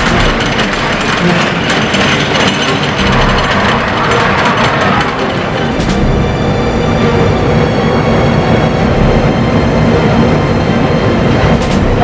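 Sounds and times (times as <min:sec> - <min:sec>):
ship diesel engine clattering: 0:00.0 - 0:12.0.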